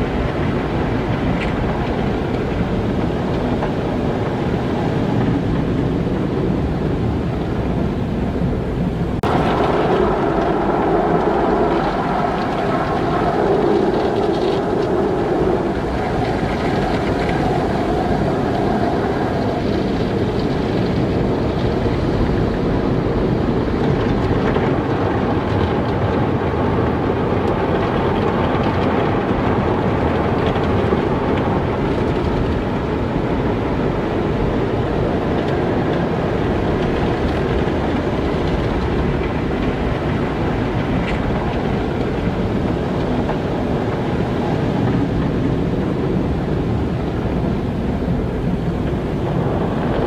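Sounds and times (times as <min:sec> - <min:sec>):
automatic car wash running: 0:00.0 - 0:50.0.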